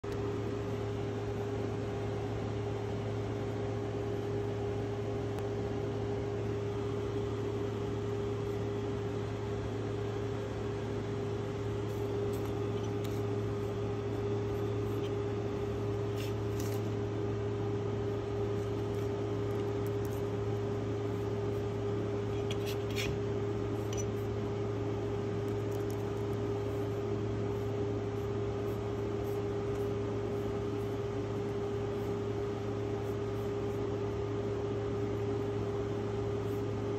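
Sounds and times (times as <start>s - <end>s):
machine hum: 0.0s - 36.9s.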